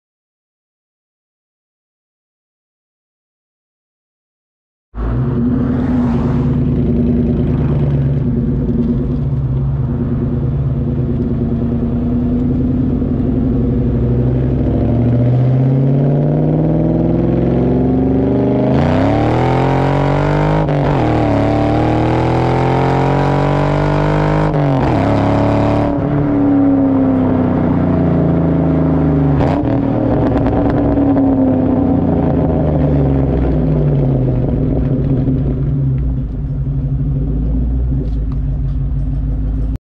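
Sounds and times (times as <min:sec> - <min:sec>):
car exhaust at full throttle: 0:05.0 - 0:39.8.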